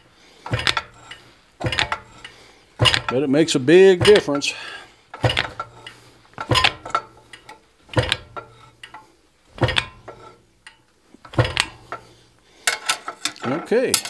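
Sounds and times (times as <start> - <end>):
fly press metallic clanks: 0.0 - 14.0.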